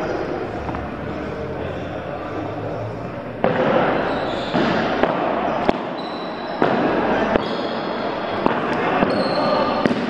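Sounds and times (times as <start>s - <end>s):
rough background noise: 0.0s - 10.0s.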